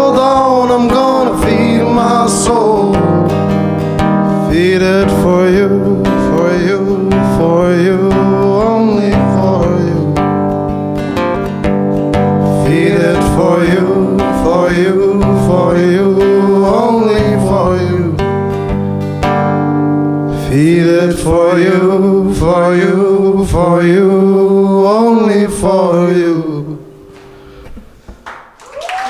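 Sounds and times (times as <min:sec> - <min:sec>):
acoustic guitar strumming chords: 0:00.0 - 0:28.2.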